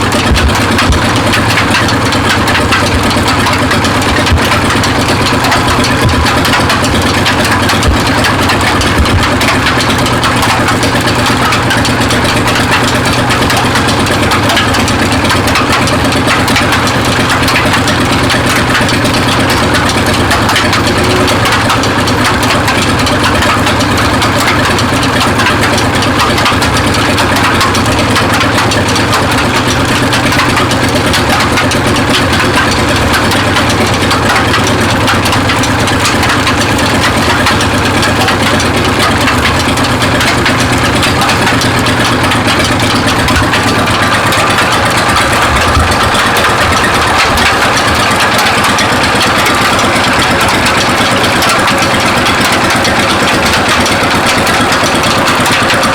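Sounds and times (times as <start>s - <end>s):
engine running steadily: 0.0s - 55.9s
thin steady whine: 0.0s - 55.9s.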